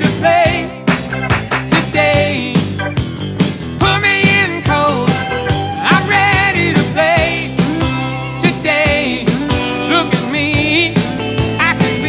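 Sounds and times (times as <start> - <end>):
rock song: 0.0 - 12.0.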